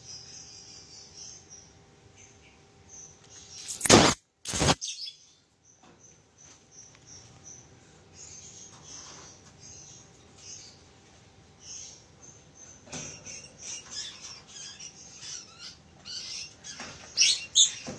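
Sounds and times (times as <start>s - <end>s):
small animals chirping and squeaking: 0.0s - 10.8s, 11.6s - 17.9s.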